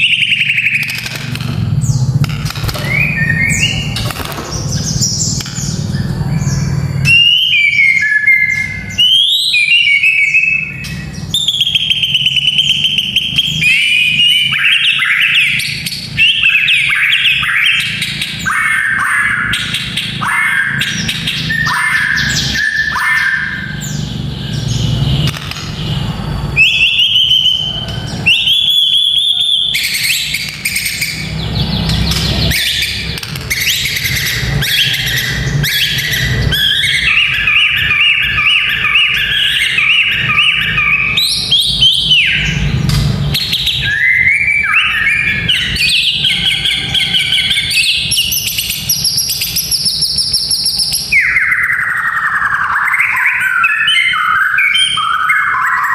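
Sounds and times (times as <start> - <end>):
songbird whistled song: 0.0 - 55.9.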